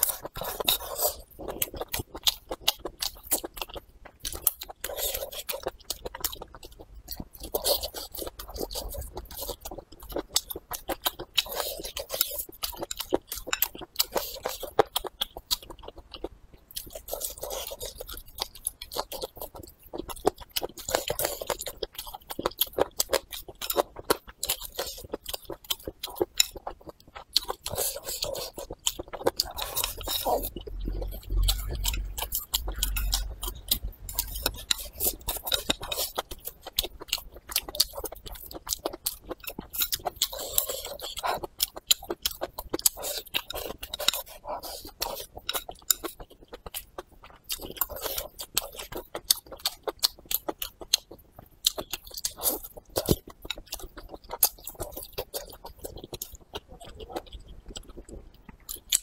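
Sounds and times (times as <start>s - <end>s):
close chewing with mouth clicks: 0.0s - 59.0s.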